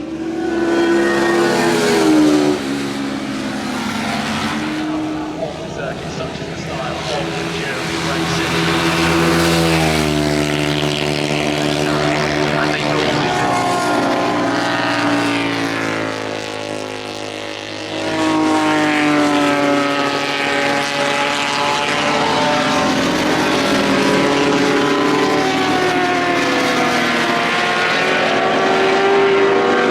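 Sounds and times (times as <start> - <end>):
motorcycle engines passing at speed: 0.0 - 29.9.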